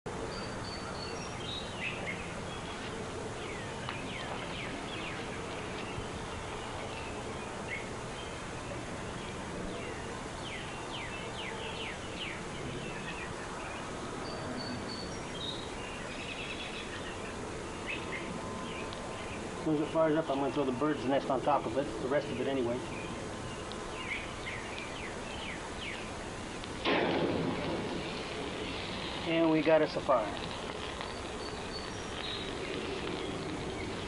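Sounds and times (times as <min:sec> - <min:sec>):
steady background hiss: 0:00.1 - 0:34.0.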